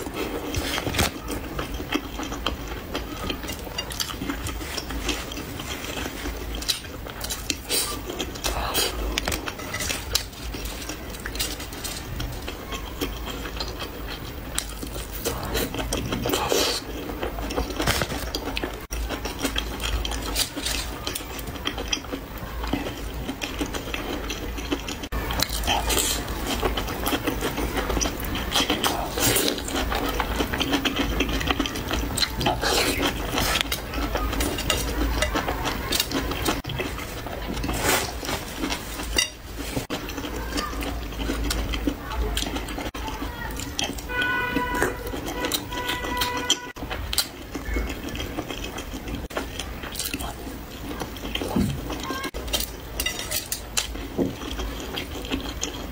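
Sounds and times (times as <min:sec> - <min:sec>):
small clicks and crackles: 0:00.0 - 0:55.9
wet chewing and slurping: 0:00.0 - 0:55.9.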